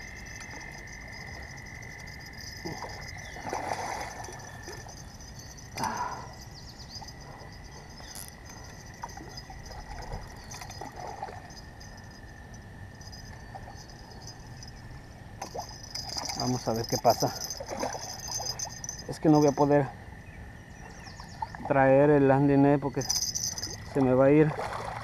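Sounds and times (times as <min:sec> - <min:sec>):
frogs trilling: 0:00.0 - 0:24.6.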